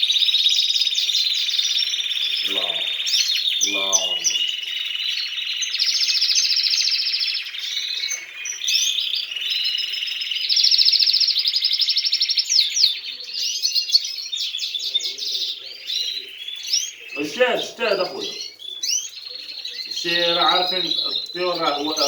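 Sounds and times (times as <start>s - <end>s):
canaries trilling and chirping: 0.0s - 22.0s.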